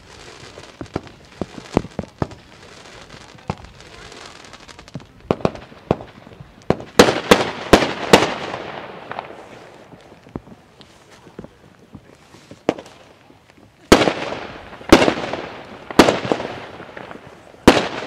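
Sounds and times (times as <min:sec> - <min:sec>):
fireworks crackling hiss: 0:00.0 - 0:18.0
fireworks pops and bangs: 0:00.0 - 0:18.0.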